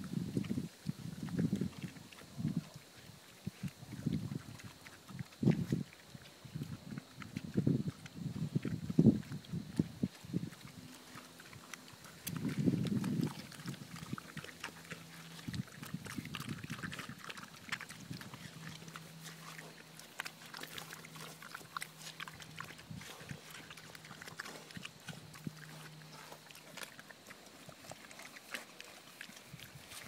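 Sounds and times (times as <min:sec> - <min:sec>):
faint low hum: 0:00.0 - 0:30.0
pigs chewing watermelon: 0:00.0 - 0:30.0.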